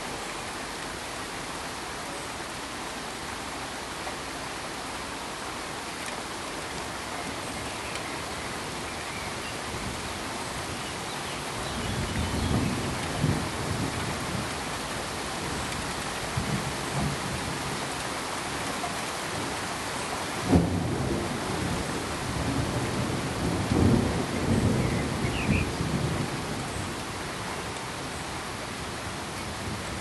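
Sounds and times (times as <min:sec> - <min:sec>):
pink noise hiss: 0:00.0 - 0:30.0.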